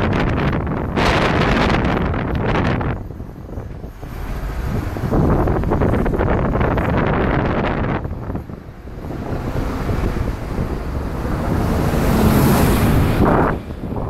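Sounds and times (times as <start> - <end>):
bus passing close by: 0.0 - 14.0
road and tyre noise: 0.0 - 14.0
wind buffeting microphone: 0.0 - 14.0.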